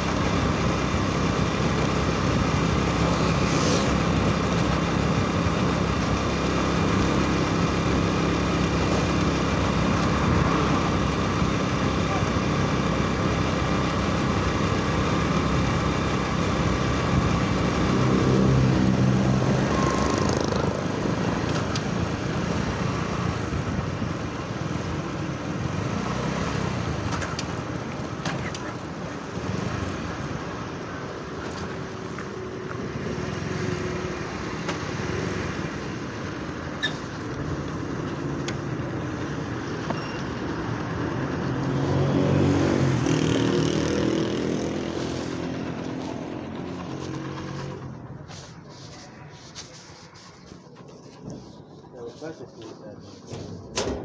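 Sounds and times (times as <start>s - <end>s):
vehicle engine running: 0.0s - 53.8s
road and wind noise: 0.0s - 54.0s.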